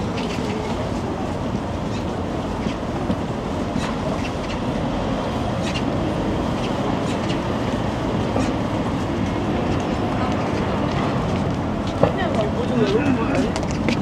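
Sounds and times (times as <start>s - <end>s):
low rumble of vehicles: 0.0s - 14.0s.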